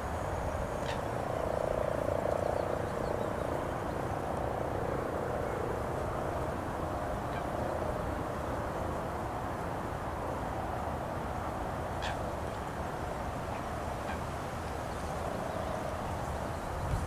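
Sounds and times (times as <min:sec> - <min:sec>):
helicopter rotor hum: 0:00.0 - 0:17.0.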